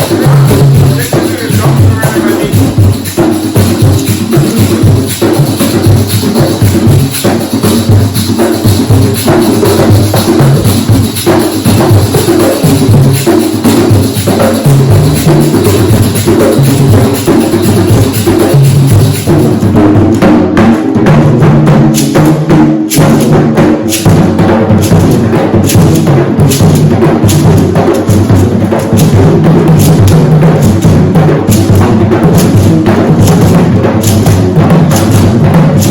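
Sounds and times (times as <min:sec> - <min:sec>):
hand drums playing: 0:00.0 - 0:35.9.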